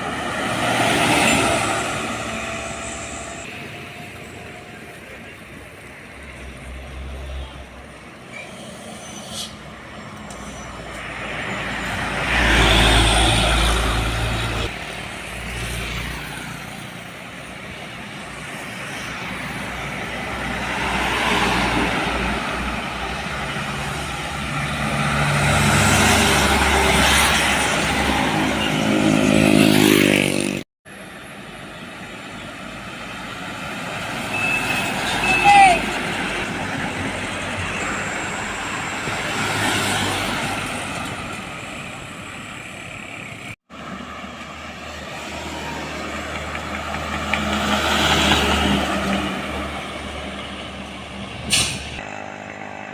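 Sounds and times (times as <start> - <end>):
heavy trucks passing: 0.0 - 52.9.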